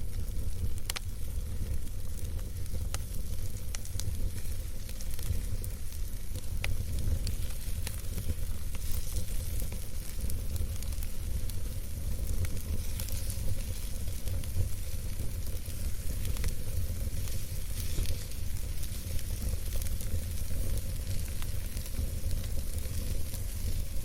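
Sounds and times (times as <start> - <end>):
burning wood crackling and popping: 0.0 - 24.0
campfire rumble and hiss: 0.0 - 24.0.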